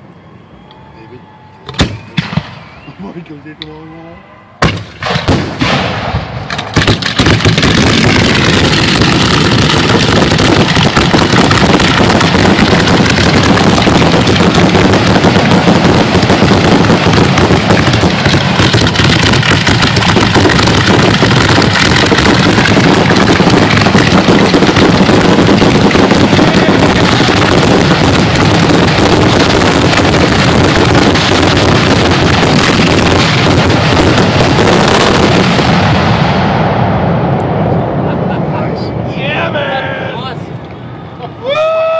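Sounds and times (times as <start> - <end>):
fireworks bursting: 4.6 - 39.5.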